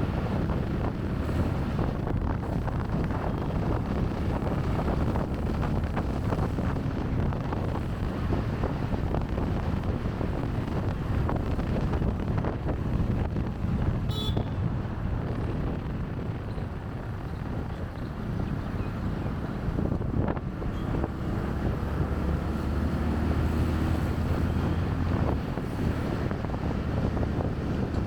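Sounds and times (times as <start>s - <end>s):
bike rumble: 0.0s - 28.0s
city traffic: 0.0s - 28.0s
wind buffeting microphone: 0.0s - 28.0s.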